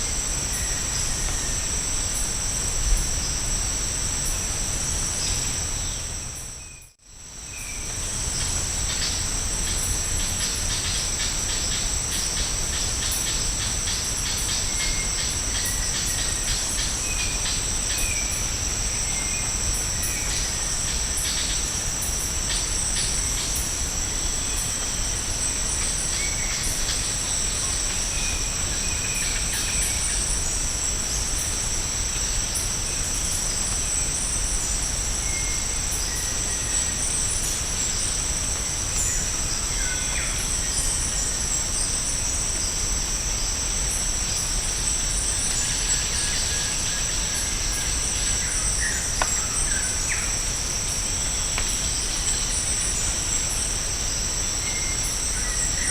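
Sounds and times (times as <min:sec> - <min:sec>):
shrill insect chorus: 0:00.0 - 0:55.9.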